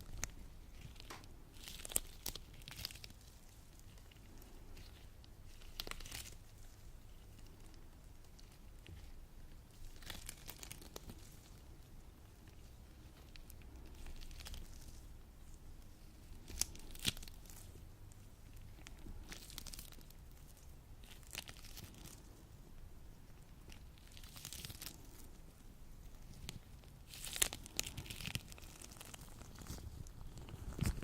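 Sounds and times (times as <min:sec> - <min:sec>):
latex gloves sticky crackling: 0:00.0 - 0:31.0.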